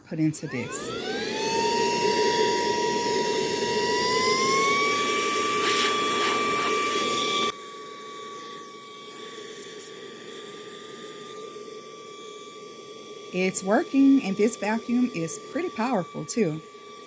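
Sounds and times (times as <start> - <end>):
handheld vacuum motor whine: 0.1 - 17.0.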